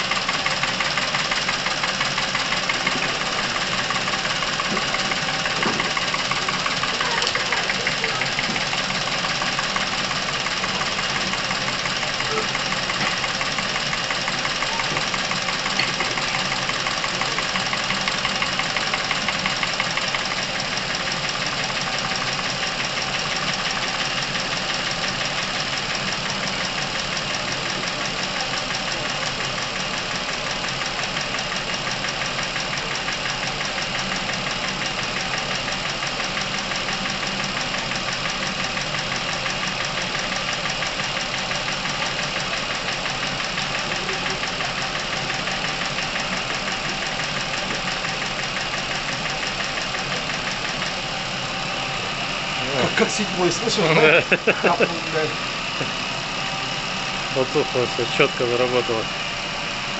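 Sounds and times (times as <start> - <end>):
car engine ticking clatter: 0.0 - 59.9.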